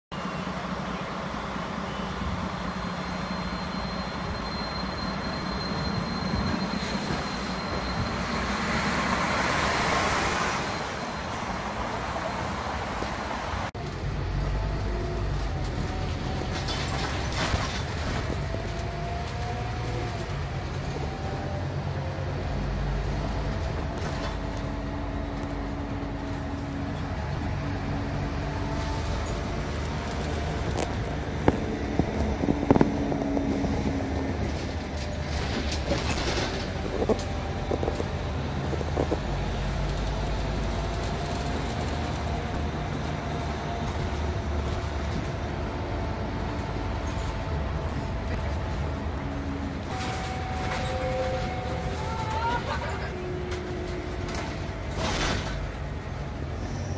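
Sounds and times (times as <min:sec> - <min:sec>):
bus engine and road noise: 0:00.1 - 0:56.9.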